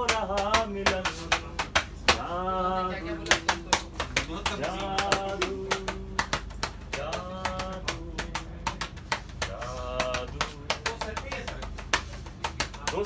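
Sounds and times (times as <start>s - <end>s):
quick clicking beat: 0.0s - 2.4s, 3.1s - 13.0s.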